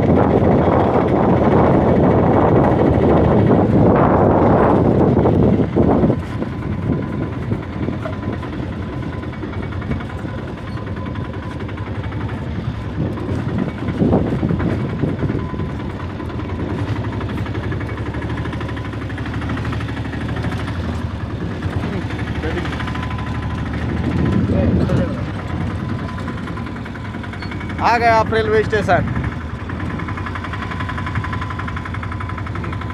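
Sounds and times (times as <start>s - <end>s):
wind on microphone: 0.0s - 22.3s, 23.0s - 27.6s, 28.9s - 31.6s
vehicle driving on road: 0.0s - 32.9s.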